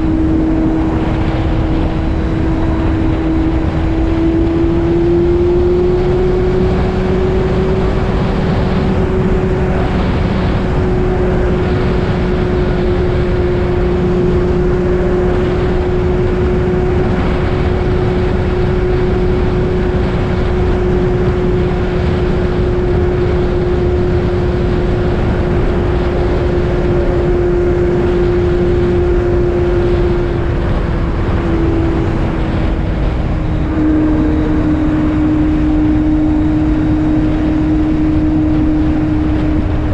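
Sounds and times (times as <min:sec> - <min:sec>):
motorcycle engine droning: 0:00.0 - 0:39.9
rush of riding noise: 0:00.0 - 0:39.9.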